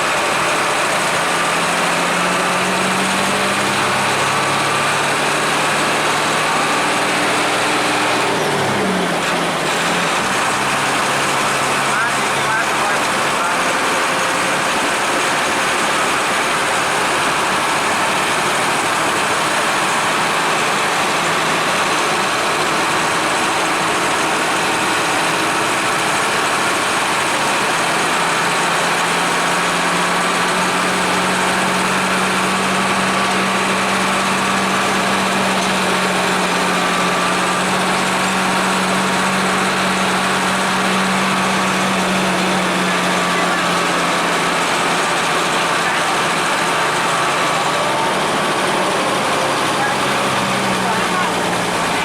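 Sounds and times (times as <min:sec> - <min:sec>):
bus diesel engine running: 0:00.0 - 0:52.0
road and wind noise: 0:00.0 - 0:52.0.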